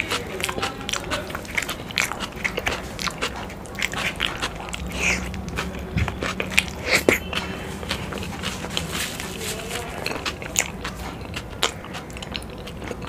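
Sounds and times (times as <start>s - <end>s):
small mouth clicks: 0.0s - 9.3s, 10.0s - 13.0s
chewing food: 0.0s - 13.0s.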